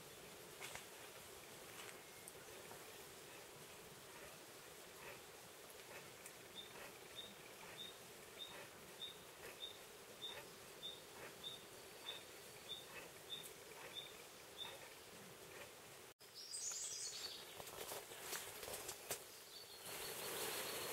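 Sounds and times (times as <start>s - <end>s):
insects humming: 0.0s - 17.4s, 18.2s - 20.9s.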